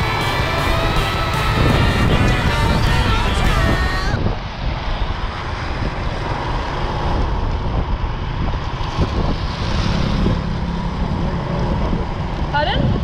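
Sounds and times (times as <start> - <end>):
scooter engine: 0.0 - 12.6
tyres on wet road: 0.0 - 13.0
wind rushing over microphone: 0.0 - 13.0.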